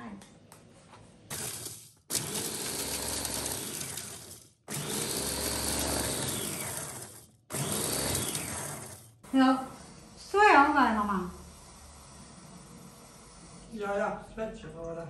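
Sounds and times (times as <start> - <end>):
food chopper motor whining: 1.3 - 14.0.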